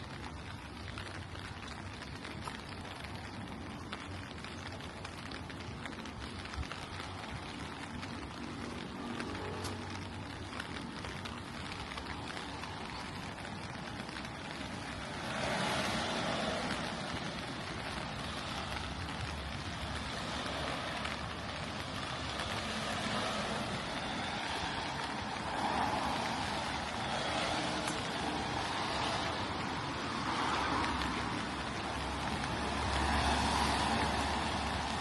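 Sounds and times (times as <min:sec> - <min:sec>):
rain falling on street: 0:00.0 - 0:35.0
vehicle tyres hissing on wet road: 0:00.0 - 0:35.0.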